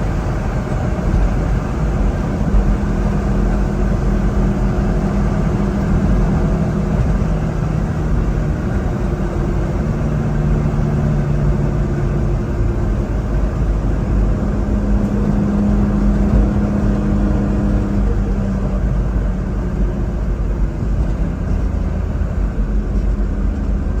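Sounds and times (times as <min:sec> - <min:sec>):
road rumble: 0:00.0 - 0:24.0
truck engine revving while driving: 0:00.0 - 0:24.0.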